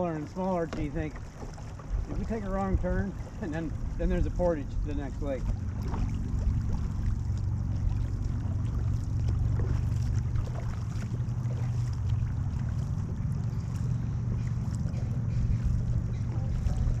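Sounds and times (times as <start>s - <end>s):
steady low rumble: 0.0s - 17.0s
water washing along canoe hull: 0.0s - 17.0s.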